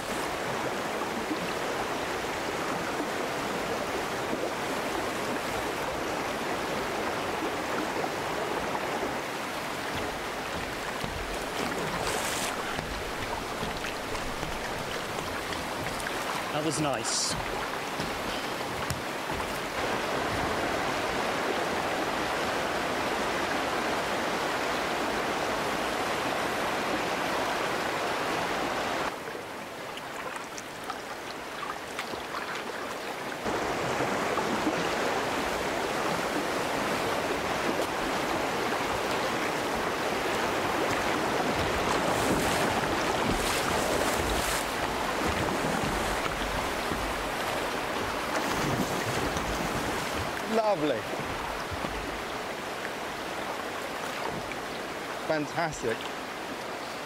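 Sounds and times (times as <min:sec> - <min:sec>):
river rapid rushing: 0:00.0 - 0:57.0.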